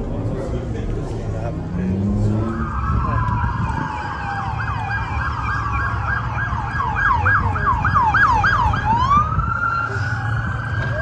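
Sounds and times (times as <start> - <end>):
low traffic rumble: 0.0 - 11.0
emergency siren yelping and wailing: 2.0 - 11.0.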